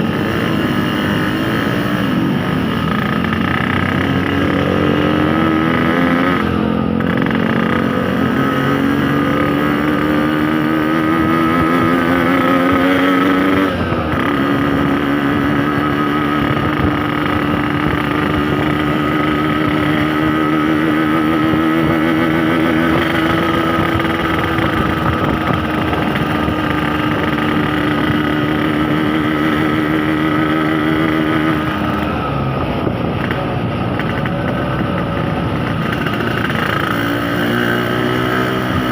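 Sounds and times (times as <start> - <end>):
two-stroke motorcycle engine: 0.0 - 38.9.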